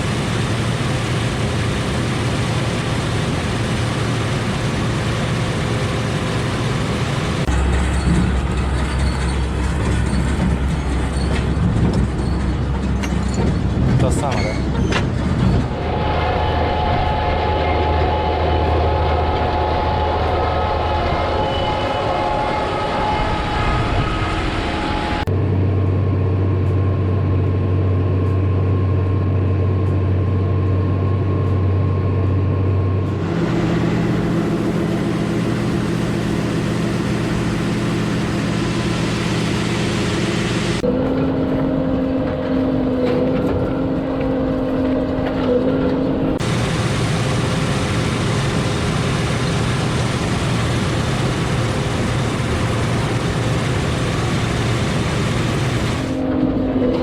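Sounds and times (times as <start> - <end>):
heavy farm machinery engine hum: 0.0 - 22.5, 24.4 - 57.0.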